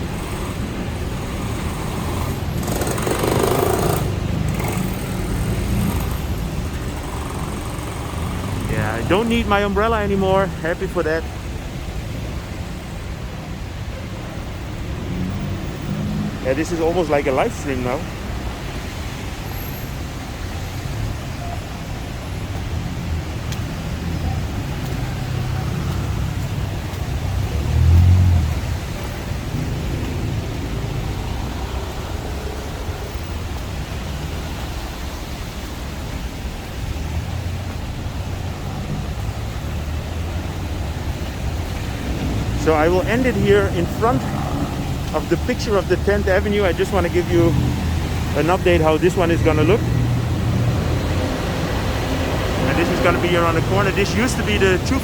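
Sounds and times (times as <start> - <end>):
low rumble of road traffic: 0.0 - 55.0.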